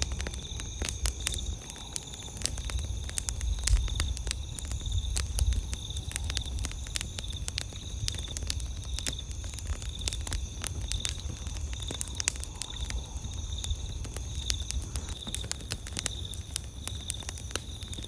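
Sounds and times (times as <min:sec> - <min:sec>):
campfire crackling: 0:00.0 - 0:18.0
night insects chirring: 0:00.0 - 0:18.0.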